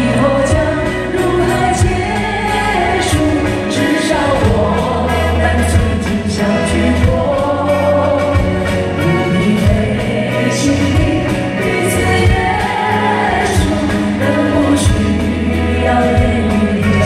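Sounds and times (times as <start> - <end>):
bass: 0.0 - 17.0
drum beat with cymbals: 0.0 - 17.0
woman singing into a microphone: 0.0 - 17.0.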